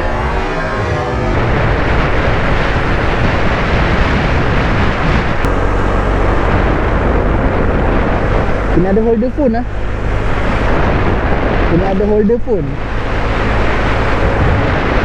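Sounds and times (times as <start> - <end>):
scooter road noise: 0.0 - 15.0
wind rushing: 0.0 - 15.0.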